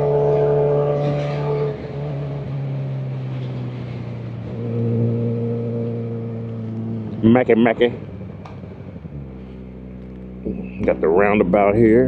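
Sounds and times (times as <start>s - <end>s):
motorcycle engine while riding: 0.0s - 12.0s.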